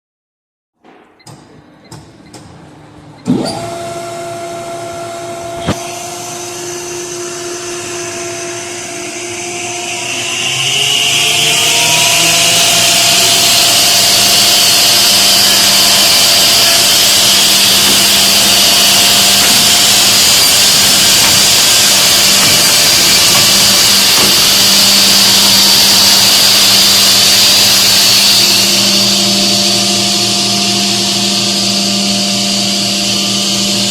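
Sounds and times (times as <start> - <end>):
edge banding machine motor whine: 3.3 - 33.9
high hissing whir: 5.2 - 33.5.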